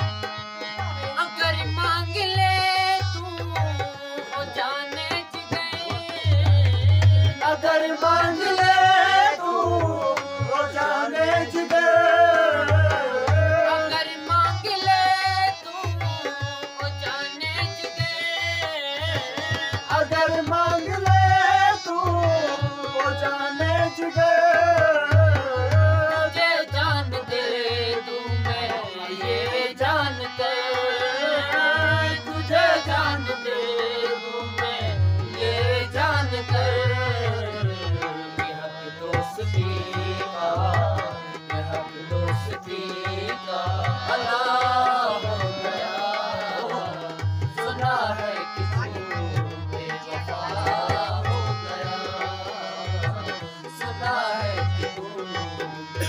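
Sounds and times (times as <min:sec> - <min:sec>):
dholak drum beat: 0:00.0 - 0:56.0
harmonium: 0:00.0 - 0:56.0
man singing: 0:00.0 - 0:56.0.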